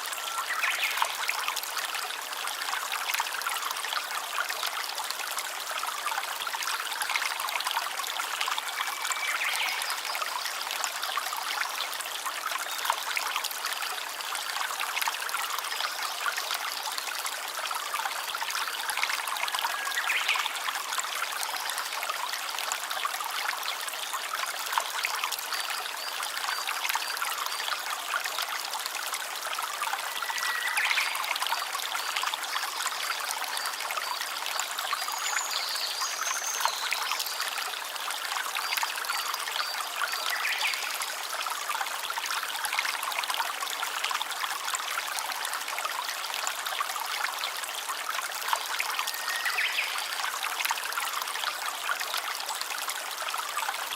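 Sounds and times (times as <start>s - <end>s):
stream water trickling: 0.0s - 53.9s.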